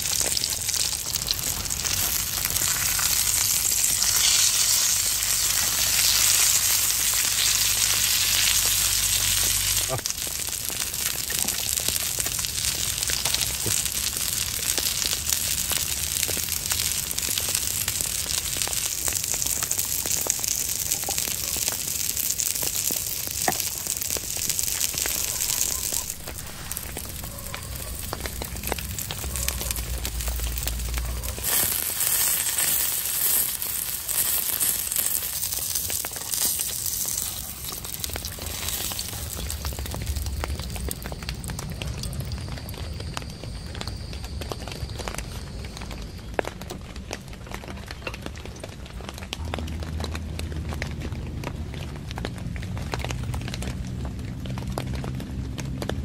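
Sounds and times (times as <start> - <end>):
burger patty sizzling in a pan: 0.0 - 48.6.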